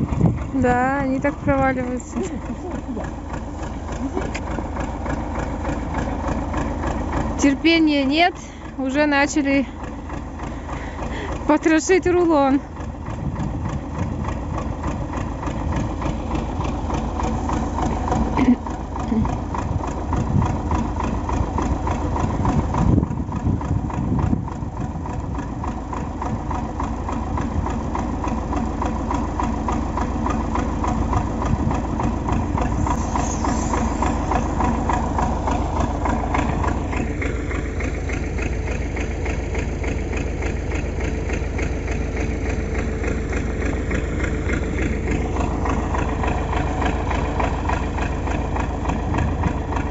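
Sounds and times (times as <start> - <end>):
tractor diesel engine idling: 0.0 - 49.9.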